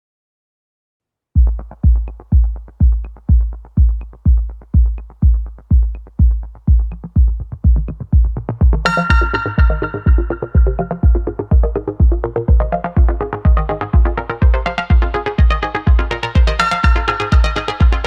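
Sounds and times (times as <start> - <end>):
kick drum beat: 1.4 - 18.0
synth chords: 1.4 - 18.0.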